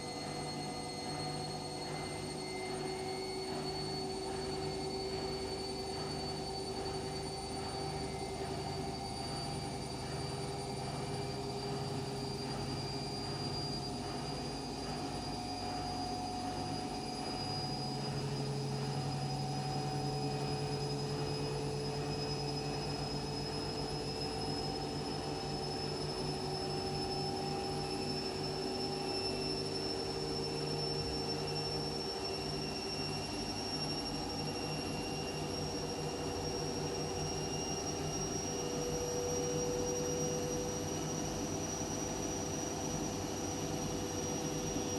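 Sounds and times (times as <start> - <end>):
high motor whine: 0.0 - 44.9
washing machine running: 0.0 - 44.9.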